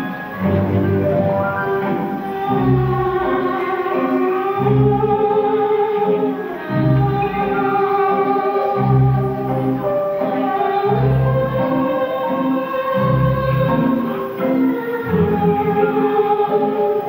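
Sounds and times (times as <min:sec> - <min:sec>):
slow waltz music: 0:00.0 - 0:17.0.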